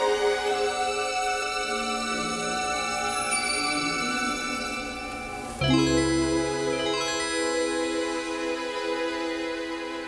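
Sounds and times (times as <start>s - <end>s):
slow held chords music: 0.0s - 10.0s.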